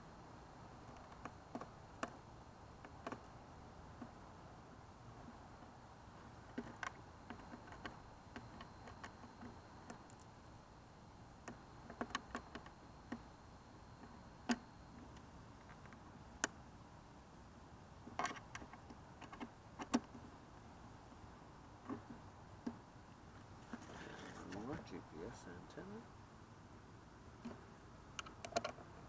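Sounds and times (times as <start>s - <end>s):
faint high steady tone: 0.0s - 18.5s, 20.5s - 27.6s.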